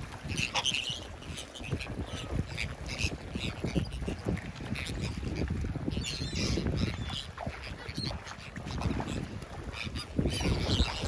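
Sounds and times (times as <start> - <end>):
wind rumble on microphone: 0.0 - 11.0
gulls calling: 0.2 - 11.0.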